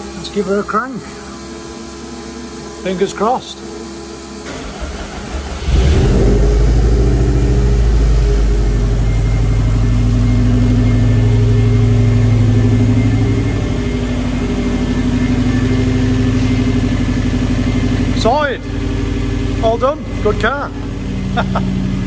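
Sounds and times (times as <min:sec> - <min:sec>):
car engine starting and running: 0:03.8 - 0:22.0.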